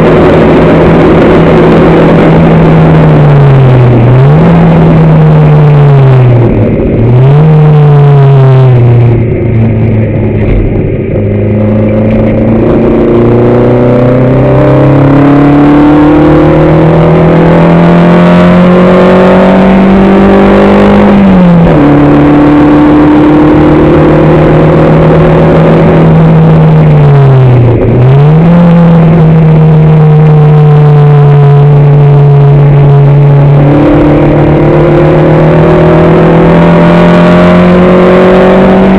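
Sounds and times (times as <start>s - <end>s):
race car engine at full throttle: 0.0s - 38.9s.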